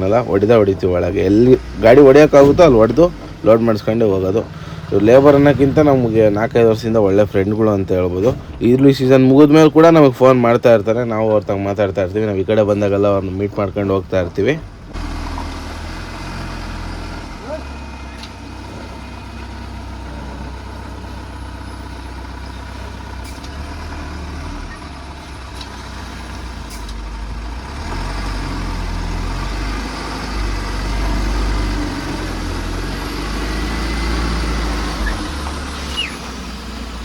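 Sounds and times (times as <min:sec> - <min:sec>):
diesel truck engine running: 0:00.0 - 0:37.0.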